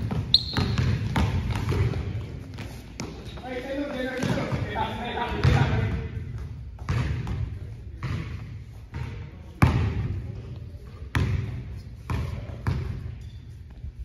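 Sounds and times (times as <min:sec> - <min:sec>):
basketball bouncing on hard court: 0:00.0 - 0:03.4, 0:04.1 - 0:04.7, 0:05.4 - 0:13.3.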